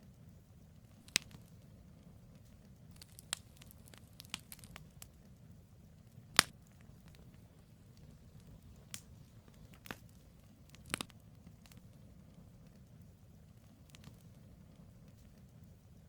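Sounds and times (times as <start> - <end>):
campfire crackling and popping: 0.0 - 16.0
faint low rumble: 0.0 - 16.0.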